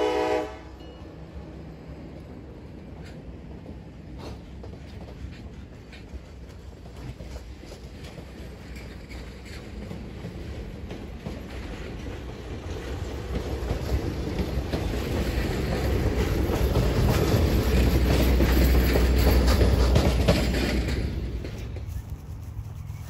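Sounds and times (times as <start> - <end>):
train wheels rumbling over rail joints: 0.0 - 23.0.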